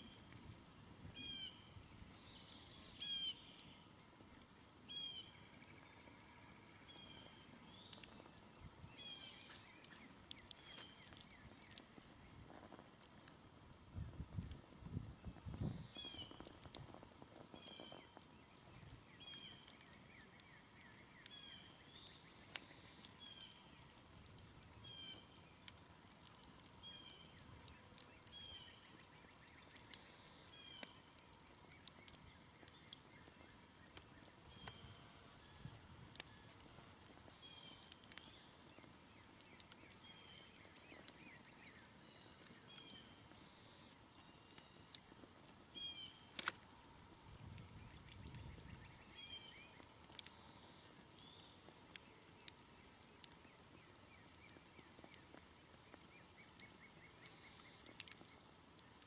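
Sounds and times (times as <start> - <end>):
campfire crackling and popping: 0.1 - 59.0.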